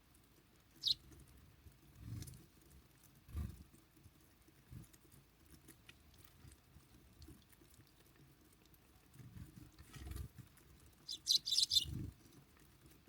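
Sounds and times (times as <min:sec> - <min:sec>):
birds pecking at feeder: 0:00.2 - 0:13.0.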